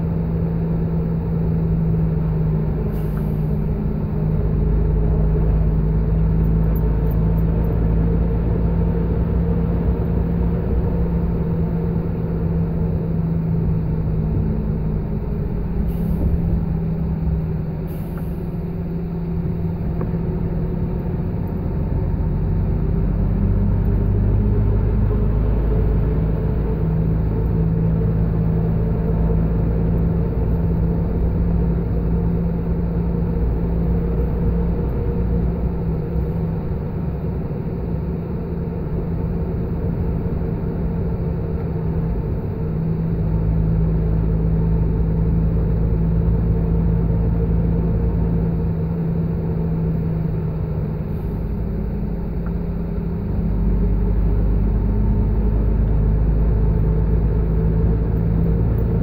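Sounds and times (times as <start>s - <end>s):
road rumble: 0.0s - 59.0s
vehicle engine running: 0.0s - 59.0s.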